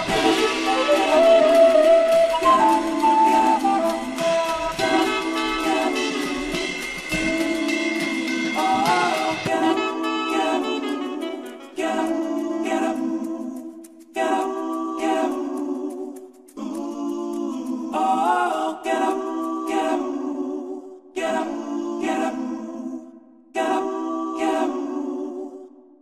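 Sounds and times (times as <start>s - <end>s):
layered vocal harmonies singing: 0.0s - 26.0s.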